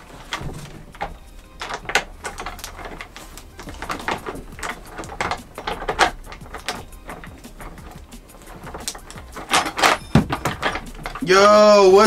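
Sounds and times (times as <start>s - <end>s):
plastic parts clicking and scraping: 0.0s - 12.0s.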